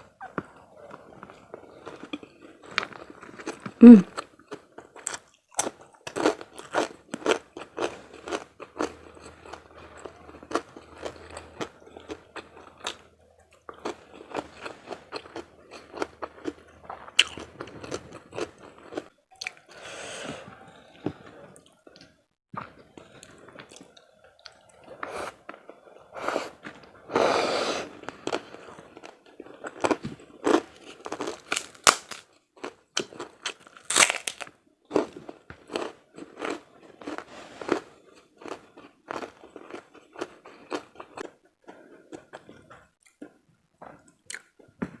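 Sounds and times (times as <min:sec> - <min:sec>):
chewing and crunching food: 0:00.0 - 0:45.0.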